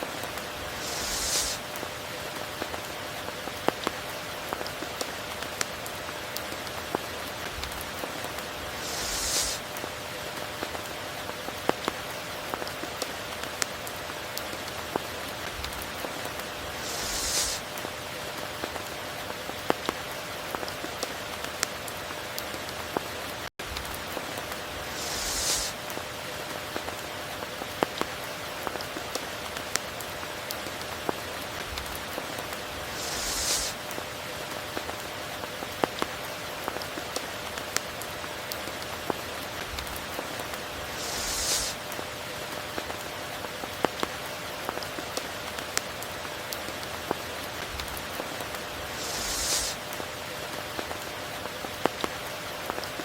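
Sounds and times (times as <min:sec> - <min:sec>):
heavy rain: 0:00.0 - 0:52.9
raindrops pattering close by: 0:00.0 - 0:53.0.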